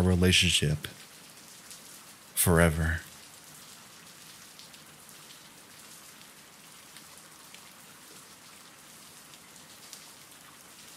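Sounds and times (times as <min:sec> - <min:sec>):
louder raindrops: 0:00.0 - 0:10.9
steady rain falling: 0:00.0 - 0:10.9.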